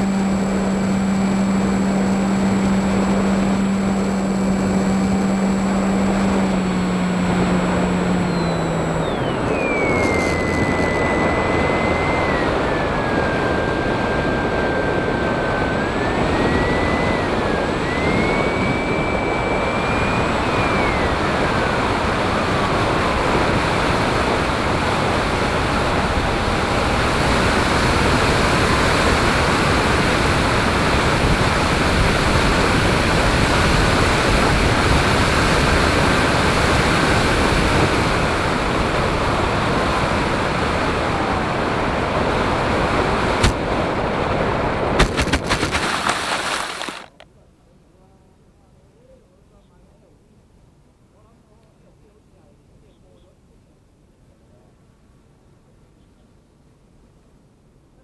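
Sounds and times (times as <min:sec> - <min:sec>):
drone motor whine: 0:00.0 - 0:47.2
propeller wash and wind rushing: 0:00.0 - 0:47.2.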